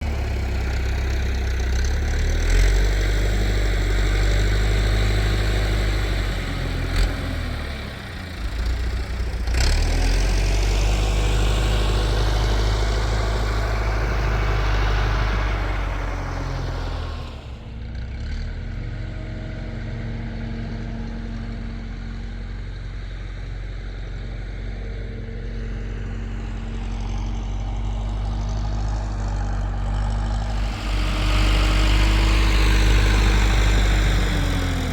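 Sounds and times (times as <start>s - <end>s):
tractor engine idling: 0.0s - 34.9s
tractor engine revving: 0.0s - 34.9s.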